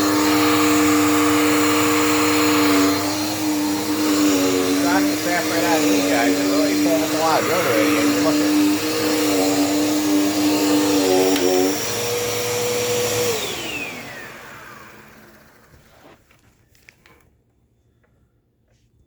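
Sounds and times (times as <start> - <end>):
vacuum cleaner whine: 0.0 - 16.5.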